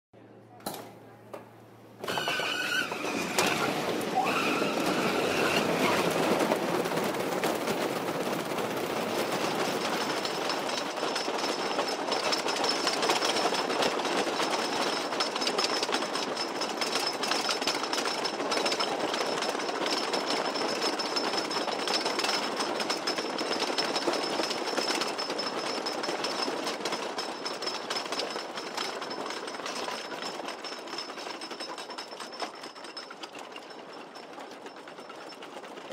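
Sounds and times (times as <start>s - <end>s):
roller coaster rattling on track: 2.0s - 35.9s.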